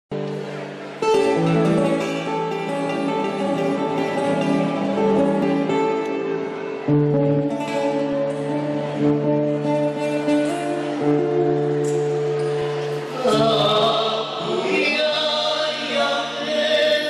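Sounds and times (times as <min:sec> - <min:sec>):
live guitar ensemble: 0:00.1 - 0:17.0.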